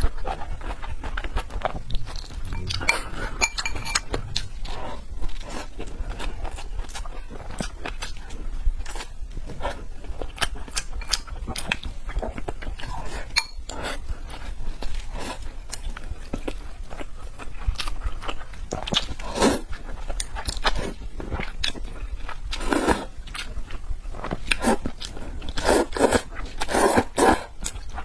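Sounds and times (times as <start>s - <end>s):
person chewing wetly: 0.0s - 28.0s.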